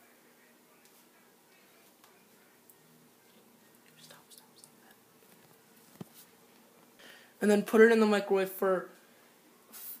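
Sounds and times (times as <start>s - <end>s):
low steady hum: 0.0s - 9.8s.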